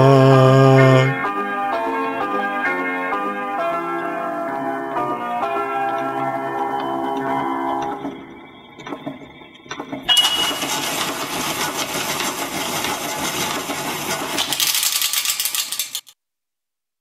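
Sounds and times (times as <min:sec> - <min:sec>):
piano roll rewinding whir: 0:01.6 - 0:16.0.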